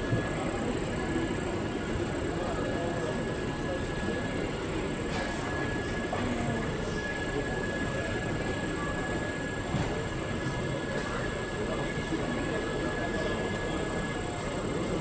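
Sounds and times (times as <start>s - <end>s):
exhibition hall rumble and hiss: 0.0s - 15.0s.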